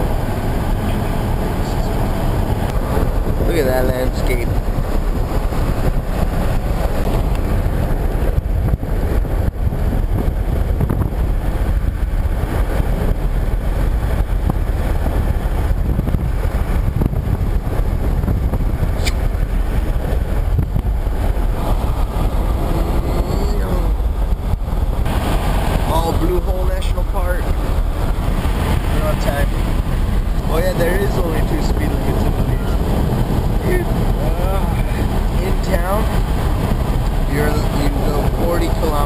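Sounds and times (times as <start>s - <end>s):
car interior road rumble: 0.0s - 39.0s.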